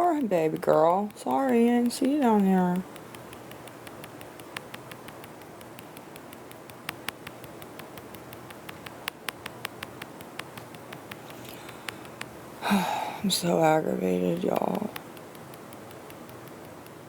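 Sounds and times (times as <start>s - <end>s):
light clicks and taps: 0.0s - 12.4s, 13.2s - 17.0s
steady background hiss: 0.0s - 17.0s.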